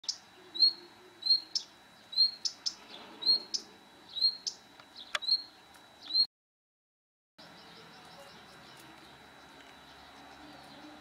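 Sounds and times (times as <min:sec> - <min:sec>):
bird chirping: 0:00.0 - 0:06.3, 0:07.4 - 0:11.0.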